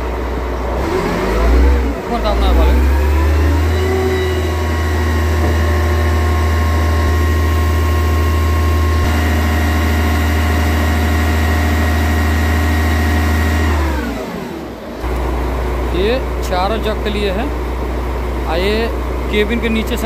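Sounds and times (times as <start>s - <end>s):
diesel engine at raised revs: 0.0s - 20.0s.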